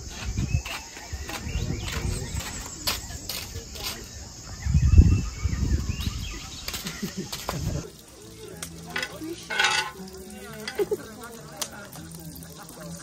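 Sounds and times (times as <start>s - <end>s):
batter sizzling on a griddle: 0.0s - 4.5s, 6.0s - 13.0s.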